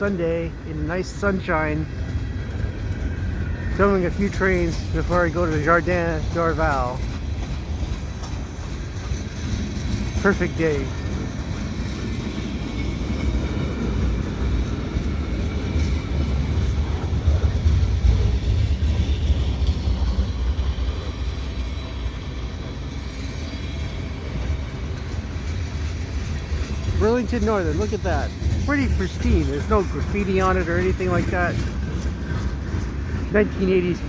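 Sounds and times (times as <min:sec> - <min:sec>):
steel wheels rumbling on rail: 0:00.0 - 0:34.0.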